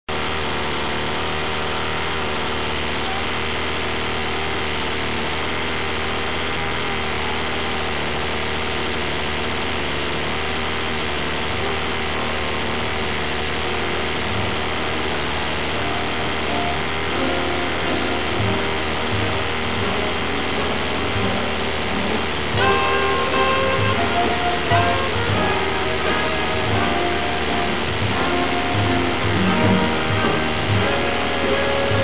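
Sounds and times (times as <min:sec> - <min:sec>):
two-stroke engine idling: 0:00.1 - 0:32.0.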